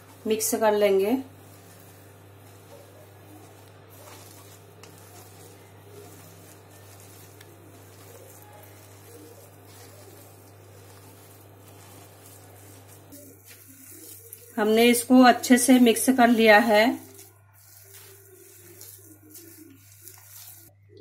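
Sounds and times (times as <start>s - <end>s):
hand squishing food mixture: 0.0s - 21.0s.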